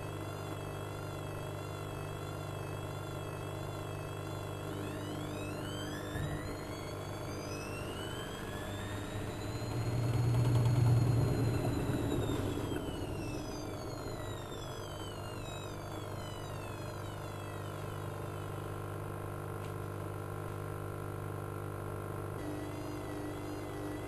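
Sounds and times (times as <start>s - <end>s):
low hum of spinning drum: 0.0s - 24.0s
washing machine motor whine: 0.0s - 24.0s.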